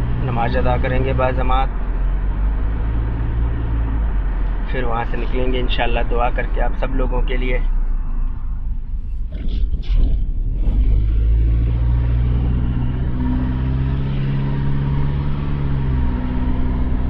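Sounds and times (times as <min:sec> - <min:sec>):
car engine running: 0:00.0 - 0:17.0
road noise inside car: 0:00.0 - 0:17.0.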